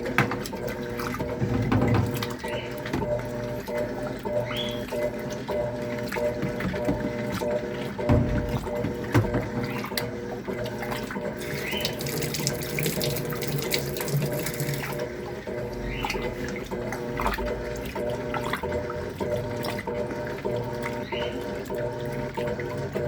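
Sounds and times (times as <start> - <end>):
water pouring into tub: 0.0 - 22.9.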